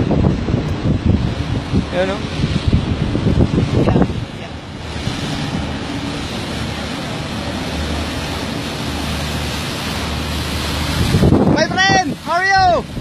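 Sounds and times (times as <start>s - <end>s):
boat engine drone: 0.0s - 13.0s
boat wake wash: 0.0s - 13.0s
wind on microphone: 0.0s - 13.0s.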